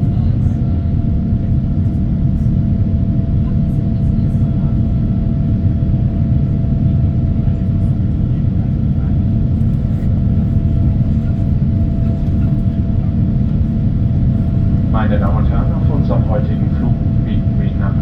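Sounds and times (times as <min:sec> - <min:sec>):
airliner cabin rumble: 0:00.0 - 0:18.0
constant hum: 0:00.0 - 0:18.0.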